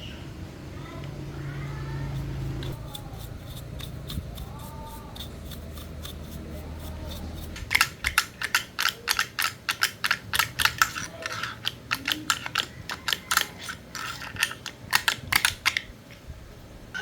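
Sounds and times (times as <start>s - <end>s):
hand tools clicking on metal: 2.2s - 16.2s.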